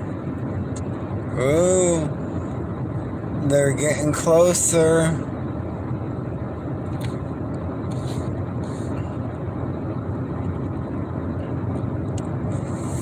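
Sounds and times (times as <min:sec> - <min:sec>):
engine and road noise in cab: 0:00.0 - 0:13.0.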